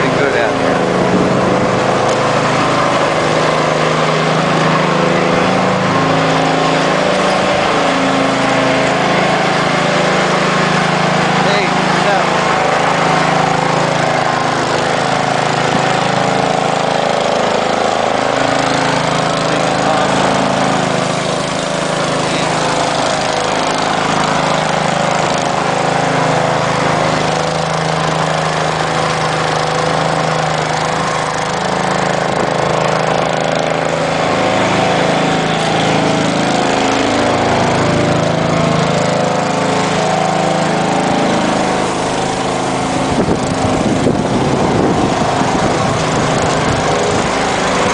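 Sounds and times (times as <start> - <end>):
engine running: 0.0 - 47.9.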